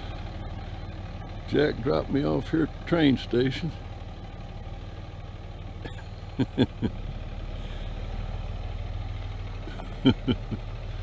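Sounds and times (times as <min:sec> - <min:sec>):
truck engine at low revs: 0:00.0 - 0:11.0.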